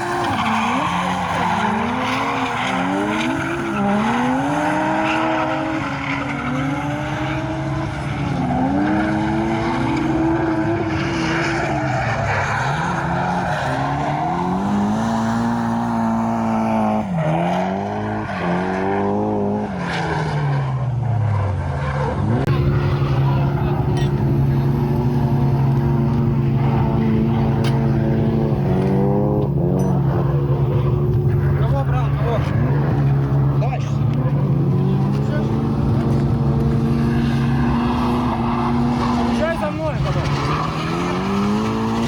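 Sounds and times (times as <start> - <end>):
car engine revving hard: 0.0 - 42.0.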